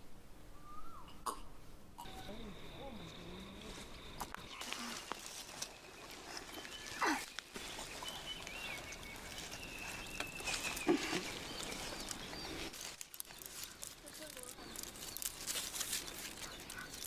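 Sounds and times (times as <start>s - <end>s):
faint outdoor background: 0.0s - 17.0s.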